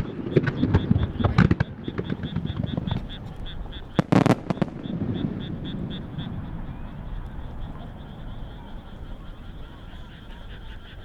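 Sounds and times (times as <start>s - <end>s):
fireworks bangs and crackles: 0.0s - 10.6s.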